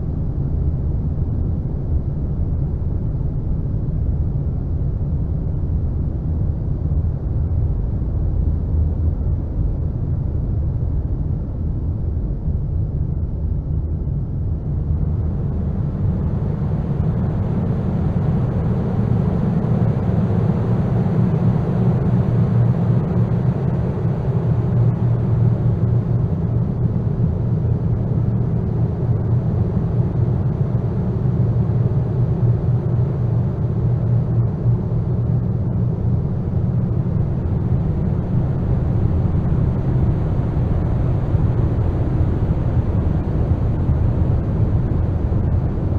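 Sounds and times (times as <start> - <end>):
low rumbling noise drone: 0.0 - 45.9.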